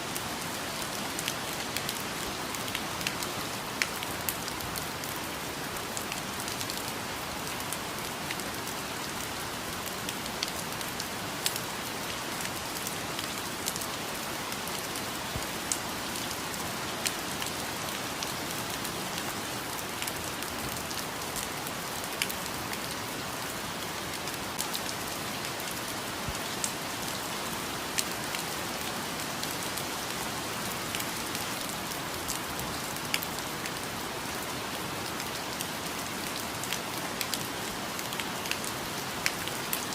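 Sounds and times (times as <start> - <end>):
steady rainfall hiss: 0.0 - 39.9.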